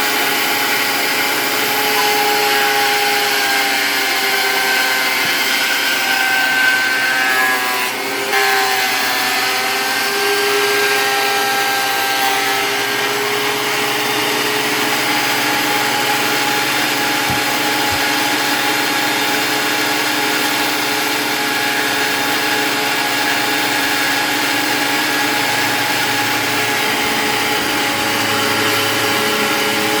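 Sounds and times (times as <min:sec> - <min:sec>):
power saw whining cutting wood: 0:00.0 - 0:30.0.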